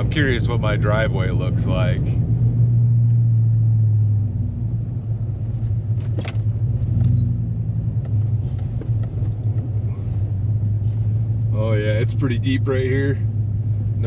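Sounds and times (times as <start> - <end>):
engine and road drone: 0.0 - 14.0.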